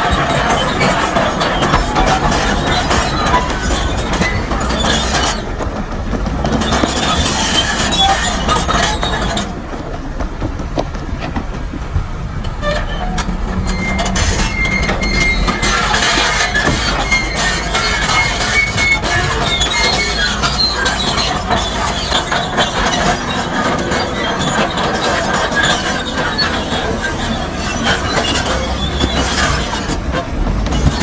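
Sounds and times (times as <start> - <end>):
diesel machinery rumble: 0.0 - 31.0
metal and rock clanking: 0.0 - 31.0.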